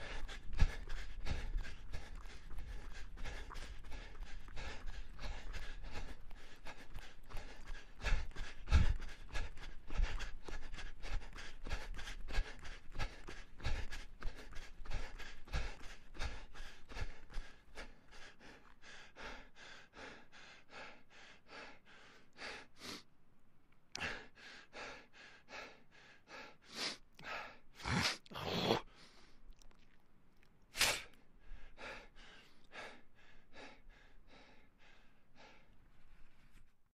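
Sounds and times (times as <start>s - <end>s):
deep gasps: 0.0s - 23.1s, 23.9s - 29.4s, 30.8s - 36.7s
person panting hard: 0.0s - 23.1s, 24.0s - 28.2s, 30.8s - 36.7s.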